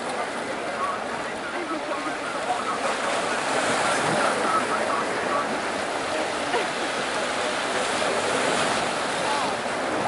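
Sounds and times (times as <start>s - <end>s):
small waves washing around a boat: 0.0s - 10.0s.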